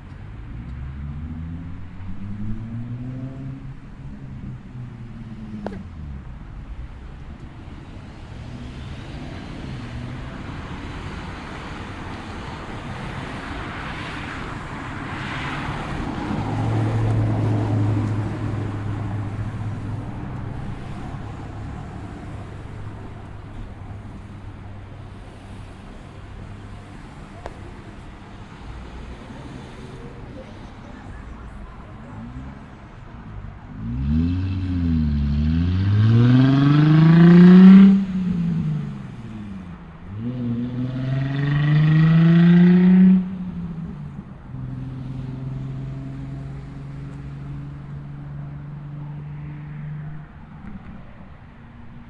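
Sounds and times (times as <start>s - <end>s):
car passing: 0.0s - 52.0s
distant road noise: 0.0s - 52.0s.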